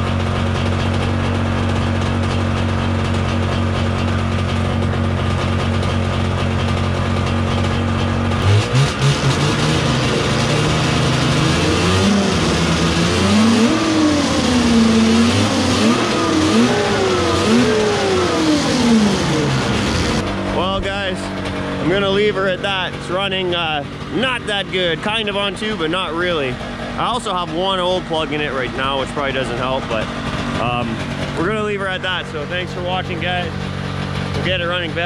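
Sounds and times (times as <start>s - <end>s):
snowmobile engine idling and revving: 0.0s - 35.0s.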